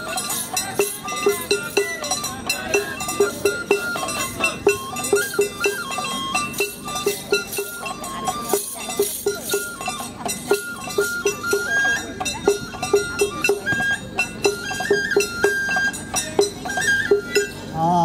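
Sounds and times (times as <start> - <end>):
quick steady beat: 0.0 - 17.6
folk dance song with high melody: 0.0 - 17.8.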